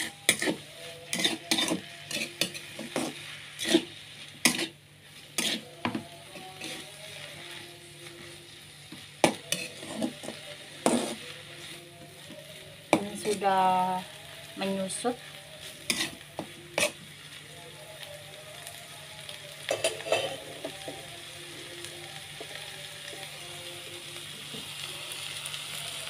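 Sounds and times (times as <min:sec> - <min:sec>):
light sizzle of food: 0:00.0 - 0:26.0.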